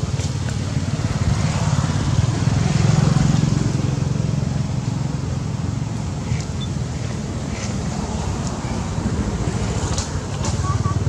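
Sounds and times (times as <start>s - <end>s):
small engine rumbling: 0.0s - 11.0s.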